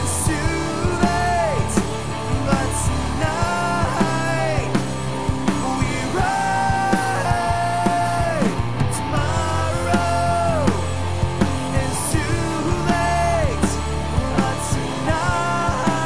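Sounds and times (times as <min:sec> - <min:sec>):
rock song with sung vocals: 0:00.0 - 0:16.0.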